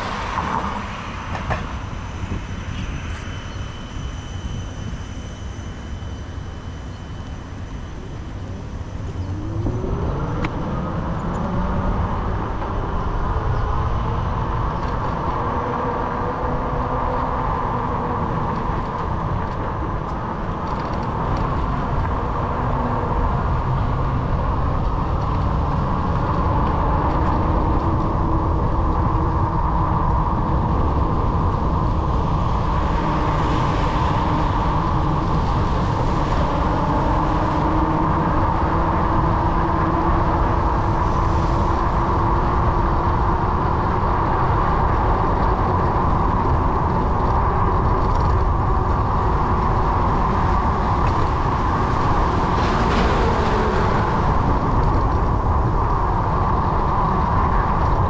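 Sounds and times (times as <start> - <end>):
vehicles passing: 0.0 - 6.1, 6.8 - 58.0
wind and road noise: 0.0 - 58.0.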